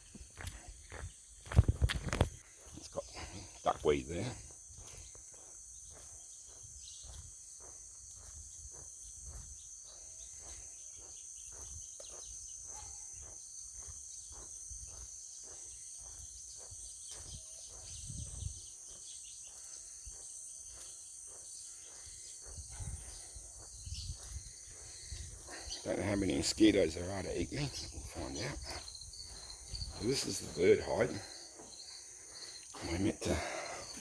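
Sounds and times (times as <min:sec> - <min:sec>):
footsteps: 0:00.0 - 0:34.0
high-pitched insect chorus: 0:00.0 - 0:34.0.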